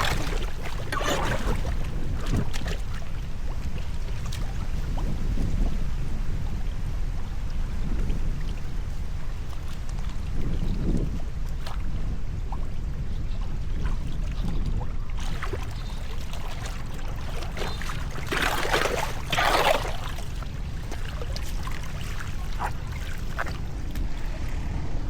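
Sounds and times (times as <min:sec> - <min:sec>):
water splashing and trickling: 0:00.0 - 0:12.0, 0:13.8 - 0:24.7
rush of water: 0:00.0 - 0:12.6, 0:13.7 - 0:25.0.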